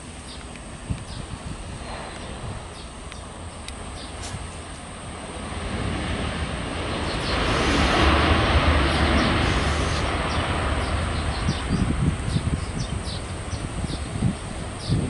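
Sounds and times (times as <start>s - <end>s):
jet engine roar: 0.0s - 15.0s
wind buffeting microphone: 0.0s - 15.0s.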